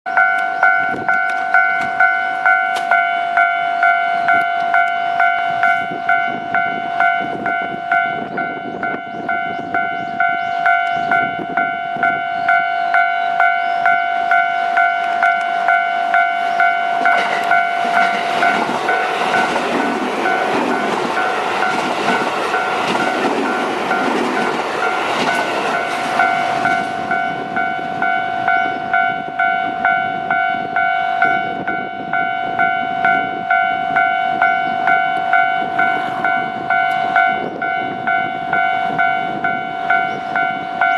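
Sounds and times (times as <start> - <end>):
level-crossing warning bell clanging: 0.1 - 40.9
train rushing past: 0.1 - 40.9.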